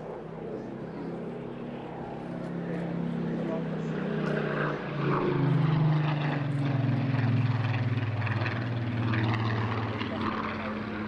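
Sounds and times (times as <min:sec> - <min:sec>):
propeller plane flying past: 0:00.0 - 0:11.0.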